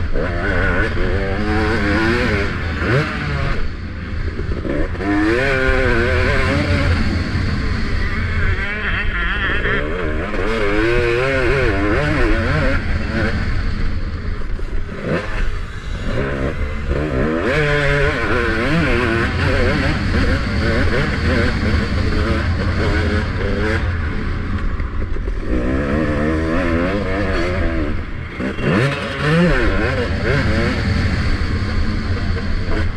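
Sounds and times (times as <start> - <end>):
motorbike engine revving: 0.0 - 32.9
wind: 0.0 - 32.9.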